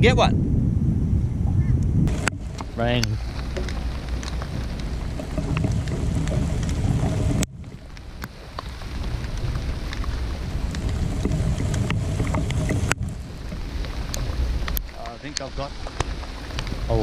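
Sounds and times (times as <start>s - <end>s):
wind buffeting microphone: 0.0s - 17.0s
rain drops ticking: 2.1s - 17.0s.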